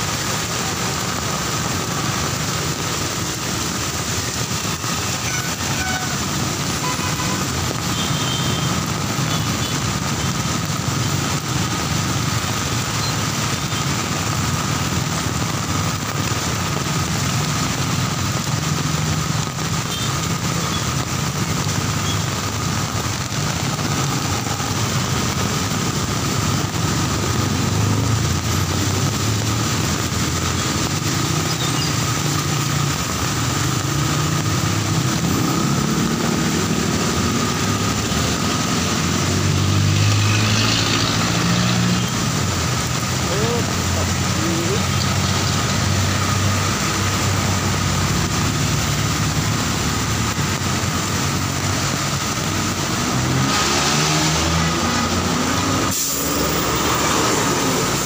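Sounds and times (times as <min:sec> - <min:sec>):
heavy rain on wet street: 0:00.0 - 0:58.0
vehicles passing through water: 0:00.0 - 0:58.0.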